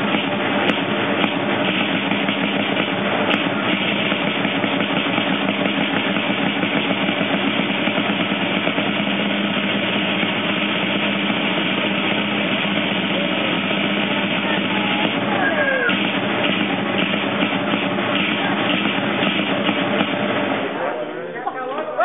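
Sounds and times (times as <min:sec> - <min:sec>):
side drum rapid roll: 0:00.0 - 0:21.0.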